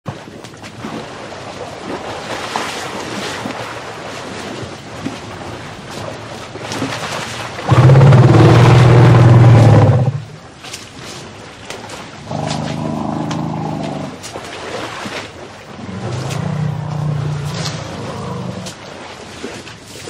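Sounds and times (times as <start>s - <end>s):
water sloshing and splashing: 0.1s - 20.0s.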